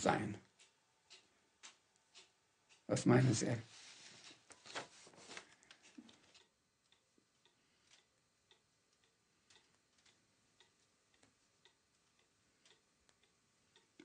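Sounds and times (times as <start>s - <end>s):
faint clock ticking: 0.0s - 3.5s, 5.6s - 14.0s.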